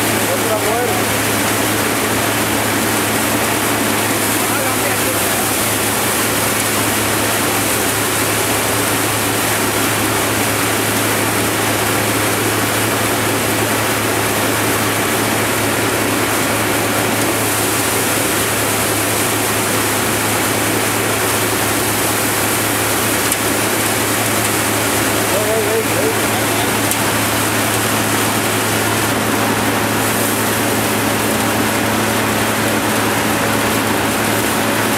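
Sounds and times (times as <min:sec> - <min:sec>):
grain streaming into plastic tub: 0:00.0 - 0:34.9
thresher mechanical din: 0:00.0 - 0:34.9.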